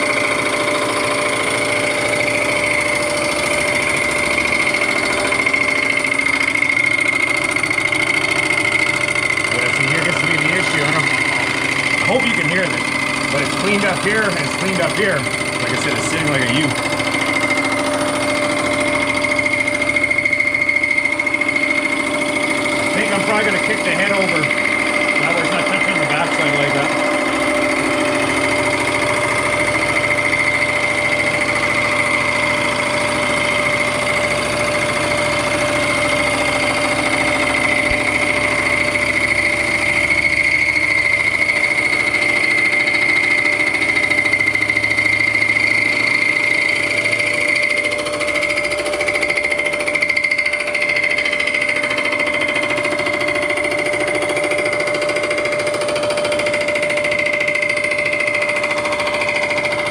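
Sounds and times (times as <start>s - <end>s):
high-pitched machine whine: 0.0s - 59.9s
milling machine cutting metal: 0.0s - 59.9s.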